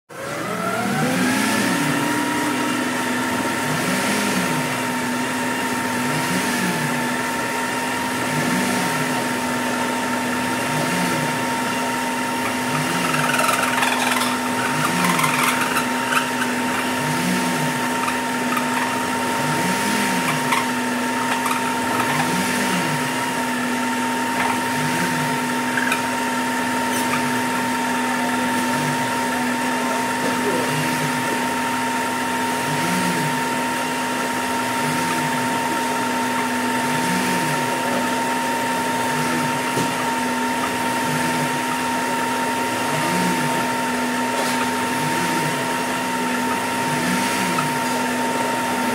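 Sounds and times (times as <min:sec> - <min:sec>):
food processor motor whine: 0:00.0 - 0:48.9.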